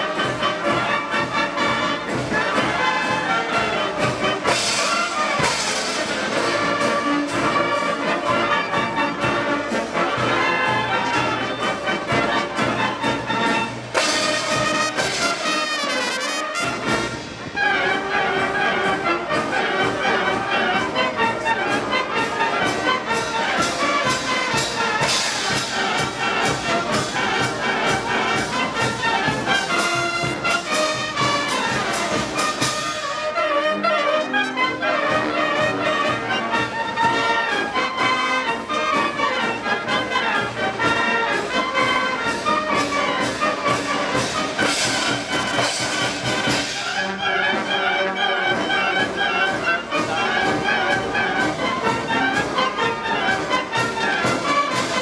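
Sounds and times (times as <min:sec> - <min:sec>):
wind band playing: 0:00.0 - 0:55.0.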